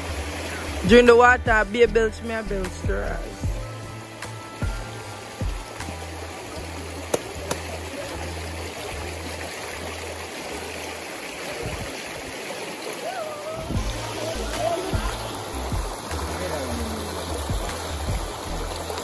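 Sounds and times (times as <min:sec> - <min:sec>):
stream running over rocks: 0:00.0 - 0:19.0.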